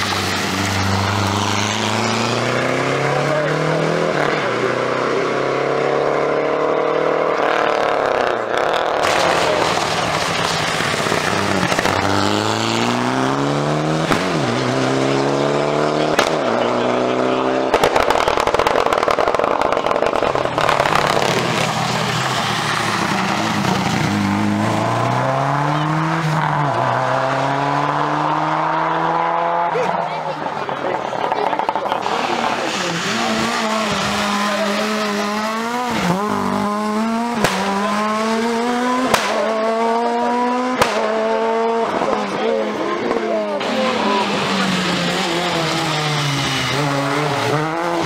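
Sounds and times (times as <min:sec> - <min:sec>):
rally cars revving past: 0:00.0 - 0:48.0.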